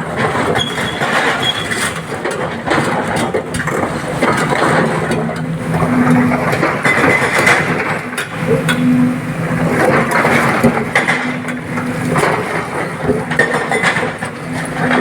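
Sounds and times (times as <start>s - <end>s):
machine knocks and clatter: 0.0s - 15.0s
diesel excavator engine running: 2.0s - 15.0s.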